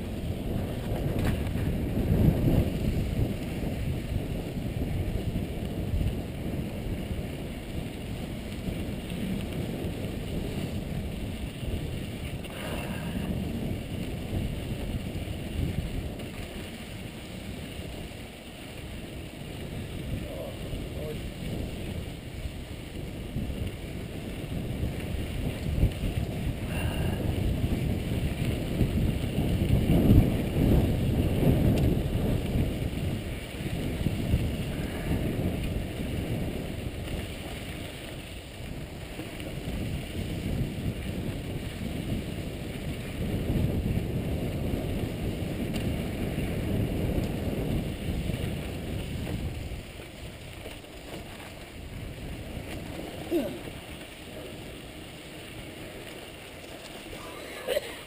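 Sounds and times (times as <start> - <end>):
bike tyres rattling over rock: 0.0 - 58.0
wind rushing over microphone: 0.0 - 58.0.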